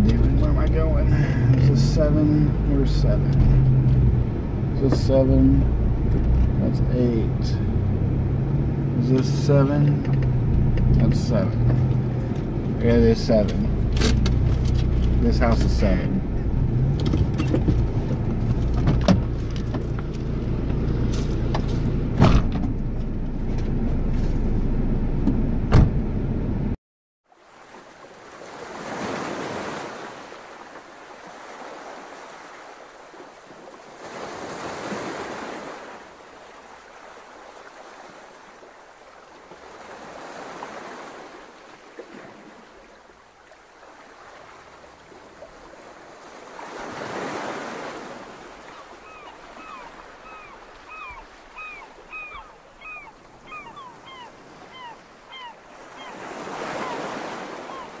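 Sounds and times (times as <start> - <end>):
waves breaking: 0.0 - 22.0, 27.3 - 58.0.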